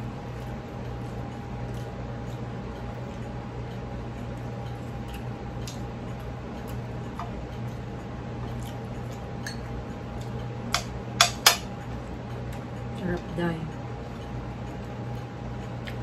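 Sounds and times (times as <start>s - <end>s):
steady low hum: 0.0s - 16.0s
chewing: 0.2s - 10.6s, 11.8s - 16.0s.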